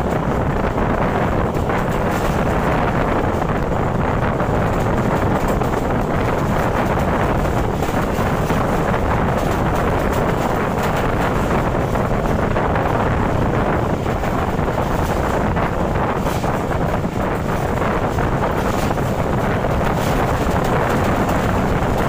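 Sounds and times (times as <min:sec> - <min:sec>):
train coach running on rails: 0:00.0 - 0:22.0
wind buffeting microphone: 0:00.0 - 0:22.0.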